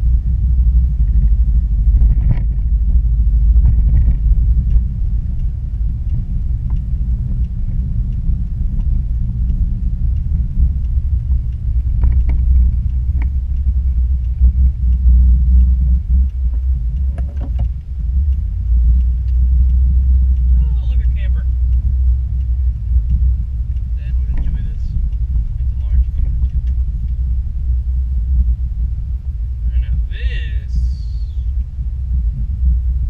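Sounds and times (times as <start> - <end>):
pickup engine rumbling: 0.0 - 33.0
faint clicks: 2.0 - 31.7.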